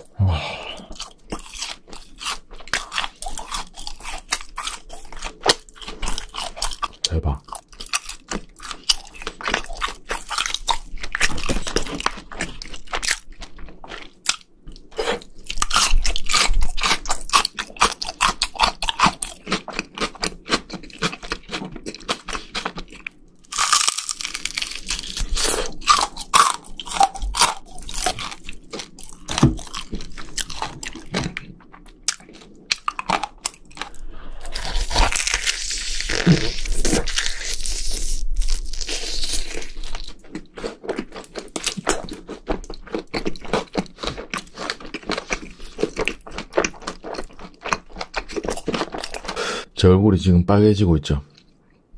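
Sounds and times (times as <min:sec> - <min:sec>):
crunchy chewing of fried chicken: 0:00.0 - 0:49.8.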